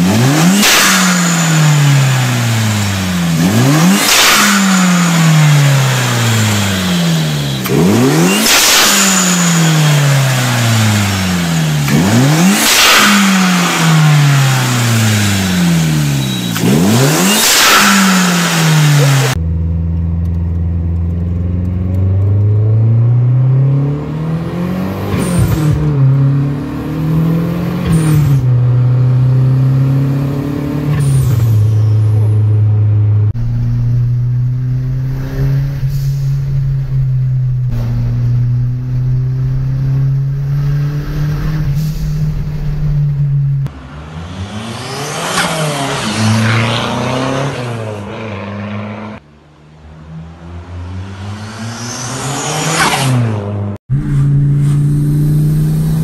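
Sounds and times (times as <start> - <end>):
turbocharged car engine revving: 0.0 - 19.6, 20.3 - 56.0.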